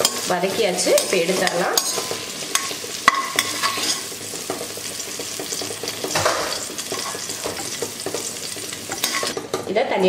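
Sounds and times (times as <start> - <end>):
metal ladle scraping a pan: 0.0 - 9.5
okra sizzling in hot oil: 0.0 - 9.7.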